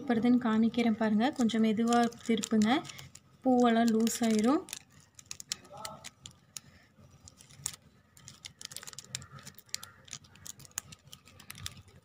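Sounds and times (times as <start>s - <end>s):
plastic basket strands clicking: 1.3s - 12.0s.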